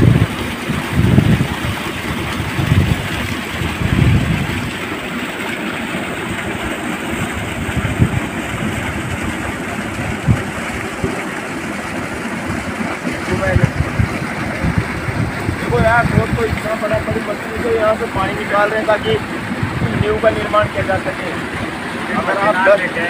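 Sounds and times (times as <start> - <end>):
wind buffeting microphone: 0.0 - 5.2, 6.0 - 22.5
water pouring into canal: 0.0 - 23.0.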